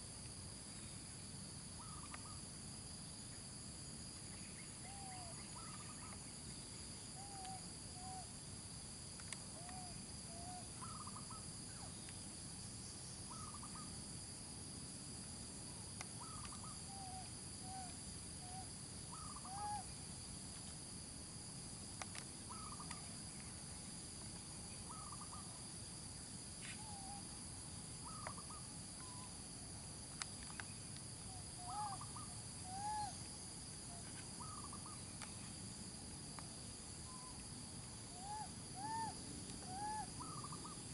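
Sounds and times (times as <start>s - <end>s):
high insect drone: 0.0s - 40.9s.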